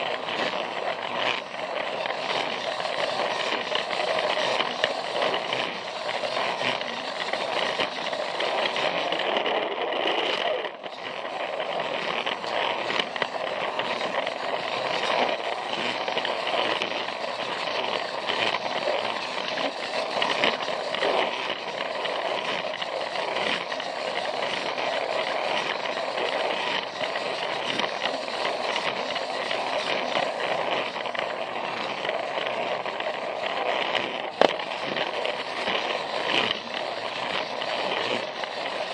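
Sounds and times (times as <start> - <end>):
toy train motor whir: 0.0 - 38.9
wheels clicking over track joints: 0.0 - 38.9.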